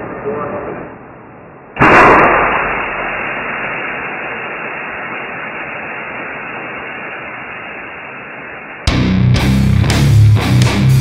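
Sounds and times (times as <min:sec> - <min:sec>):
static-like hissing noise: 0:00.0 - 0:11.0.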